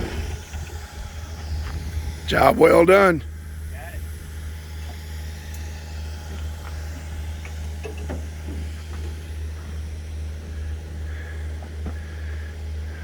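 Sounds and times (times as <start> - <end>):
engine idling drone: 0.0 - 13.0.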